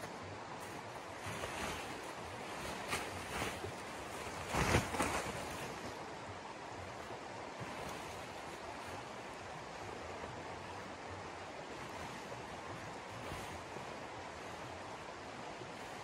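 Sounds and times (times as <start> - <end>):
steady outdoor hiss: 0.0 - 16.0
tent fabric rustling and flapping: 0.0 - 16.0.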